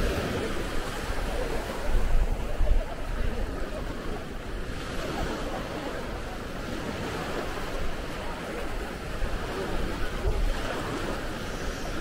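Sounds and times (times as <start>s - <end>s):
sea waves washing on a beach: 0.0s - 12.0s
wind buffeting the microphone: 0.0s - 12.0s.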